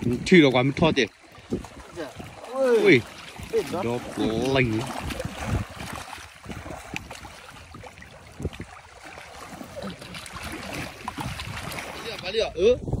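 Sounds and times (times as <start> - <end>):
water splashing in shallows: 0.0 - 13.0.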